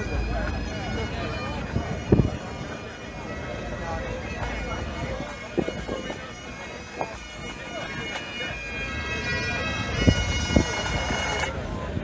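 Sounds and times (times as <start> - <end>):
distant bagpipes playing: 0.0 - 12.0.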